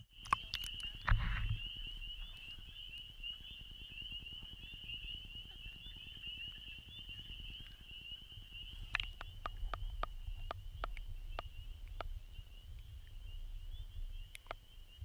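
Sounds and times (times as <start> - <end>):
spring peepers chorus: 0.0 - 15.0.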